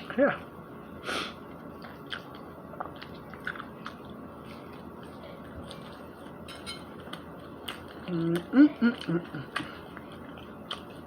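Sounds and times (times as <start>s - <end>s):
person chewing crunchy food: 1.6s - 11.0s.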